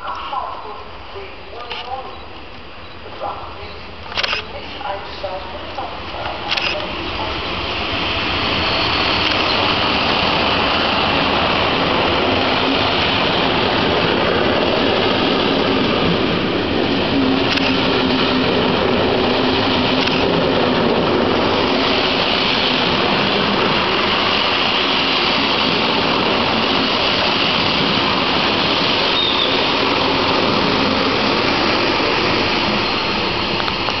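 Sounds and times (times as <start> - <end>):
train wheels rumbling on rails: 1.6 - 34.0.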